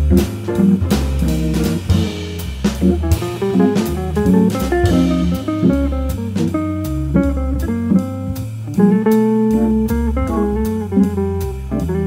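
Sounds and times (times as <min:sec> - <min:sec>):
drum kit and cymbals: 0:00.0 - 0:12.0
jazz guitar melody: 0:00.0 - 0:12.0
organ bass and chords: 0:00.0 - 0:12.0.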